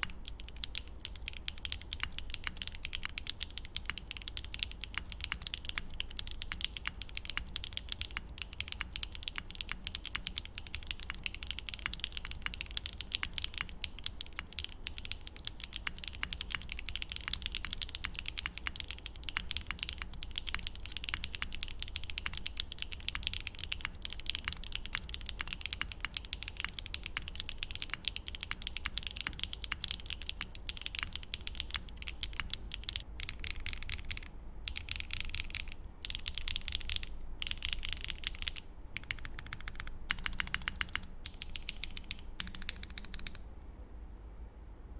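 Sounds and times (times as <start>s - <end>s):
fast typing on mechanical keyboard: 0.0s - 43.4s.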